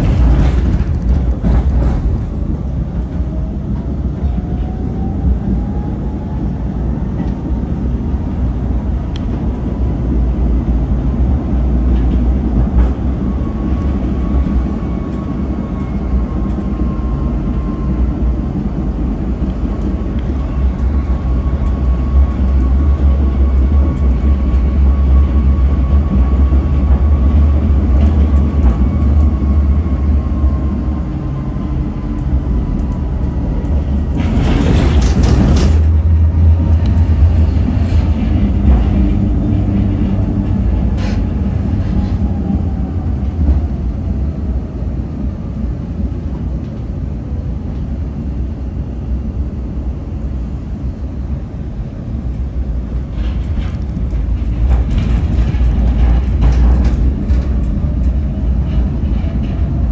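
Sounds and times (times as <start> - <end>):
tram wheels rumbling on rail: 0.0 - 59.9.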